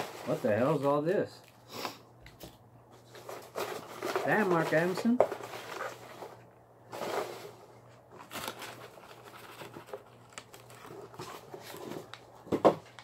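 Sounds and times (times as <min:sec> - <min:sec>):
packing peanuts and paper rustling: 0:00.0 - 0:01.4, 0:02.4 - 0:13.0.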